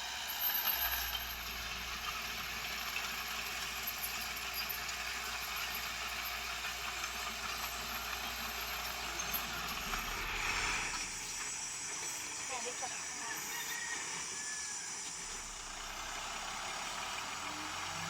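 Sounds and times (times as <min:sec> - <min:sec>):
heavy equipment engine running: 0:00.0 - 0:18.0.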